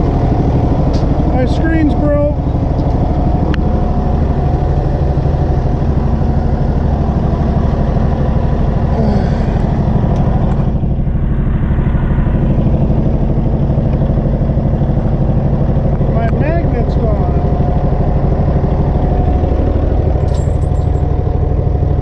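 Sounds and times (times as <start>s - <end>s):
machine engine drone: 0.0s - 22.0s.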